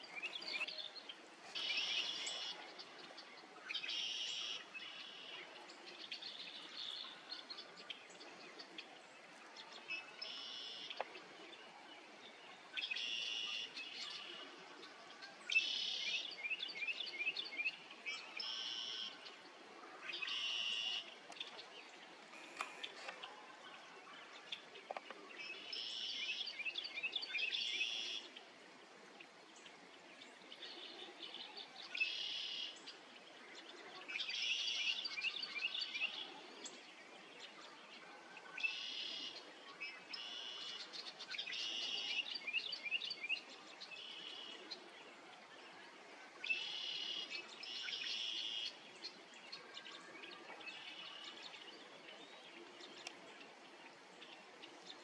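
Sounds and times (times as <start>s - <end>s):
faint background hiss: 0.0s - 55.0s.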